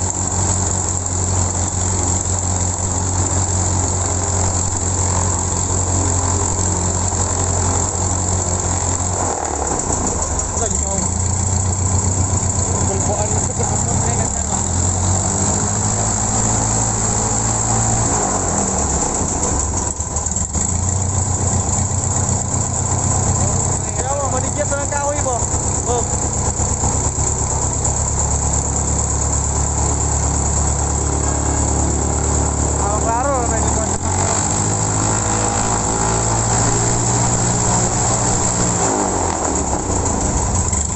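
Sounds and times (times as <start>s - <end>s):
aircraft engine running: 0.0s - 40.9s.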